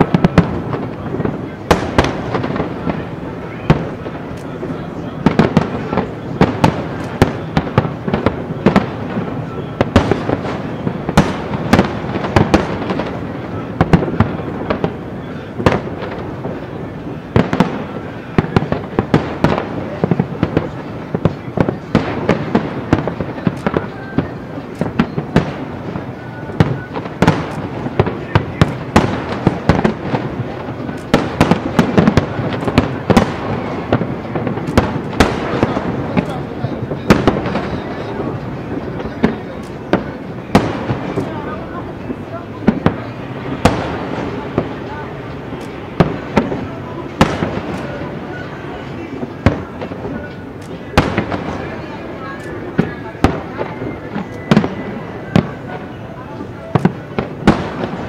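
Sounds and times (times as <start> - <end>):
fireworks booming and crackling: 0.0 - 58.0.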